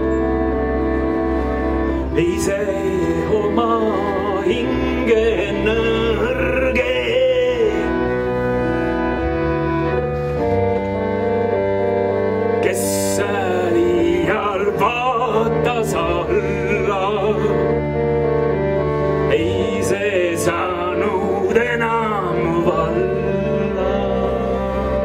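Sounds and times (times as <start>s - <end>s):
organ chords on keyboard: 0.0s - 25.0s
person singing: 1.9s - 10.1s, 12.5s - 25.0s.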